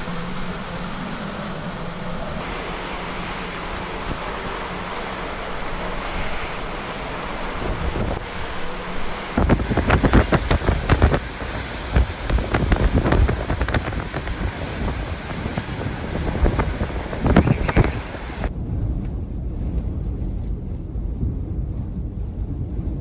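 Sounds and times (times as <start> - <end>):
wind gusting against microphone: 0.0 - 23.0.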